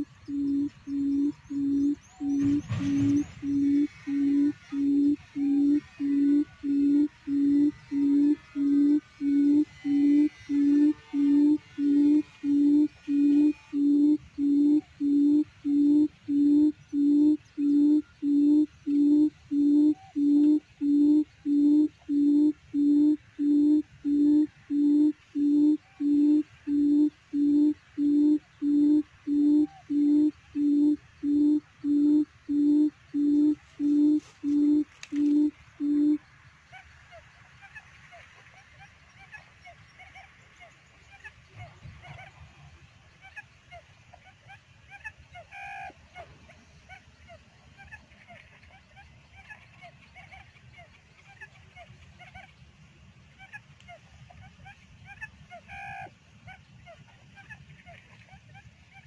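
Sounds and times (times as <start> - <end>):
quail hooting call: 0.0 - 40.3, 41.1 - 42.4, 43.2 - 52.6, 53.4 - 59.0
faint birdsong: 0.0 - 59.0.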